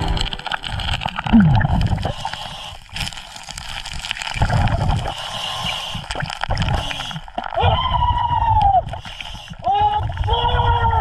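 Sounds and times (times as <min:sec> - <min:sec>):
underwater stream gurgling: 0:00.0 - 0:11.0.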